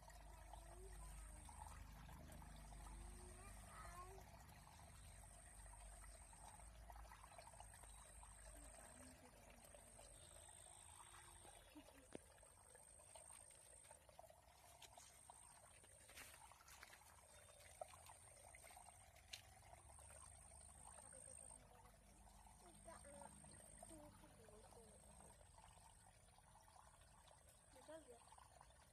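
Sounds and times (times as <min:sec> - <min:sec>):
faint trickling water: 0:00.0 - 0:28.9.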